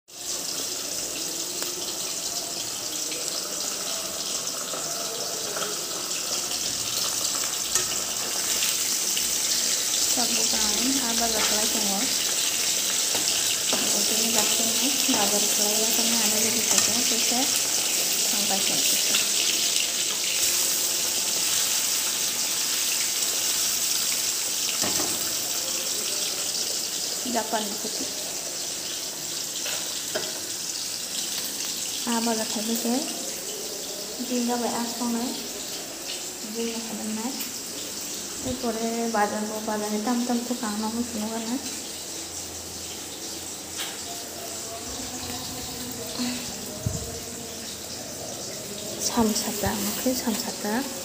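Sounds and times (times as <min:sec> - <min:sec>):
fish frying in hot oil: 0:00.1 - 0:51.0.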